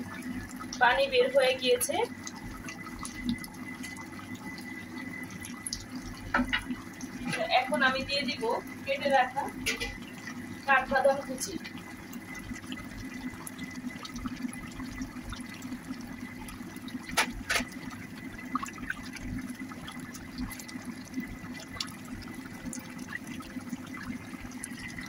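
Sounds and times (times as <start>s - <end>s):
curry bubbling in pan: 0.0s - 25.0s.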